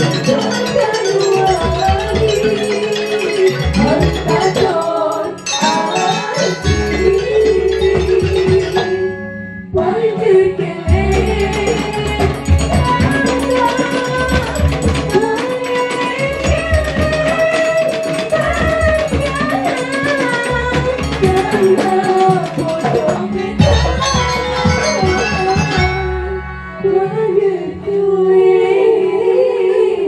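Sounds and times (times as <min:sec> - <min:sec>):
hand drums: 0:00.0 - 0:09.2, 0:10.6 - 0:26.3
gliding melody line: 0:00.0 - 0:09.8, 0:10.9 - 0:27.1
metallophones playing: 0:00.0 - 0:09.8, 0:10.8 - 0:27.0.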